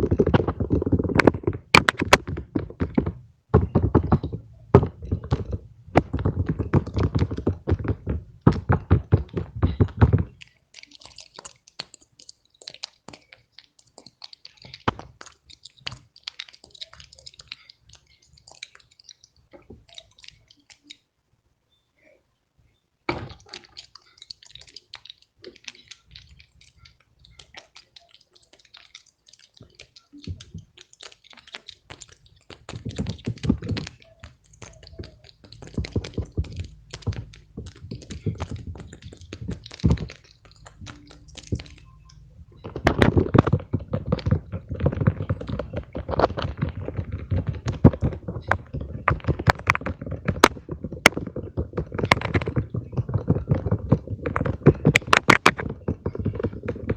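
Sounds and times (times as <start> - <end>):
fidget toys clicking and tapping: 0.0 - 21.1, 23.1 - 56.9.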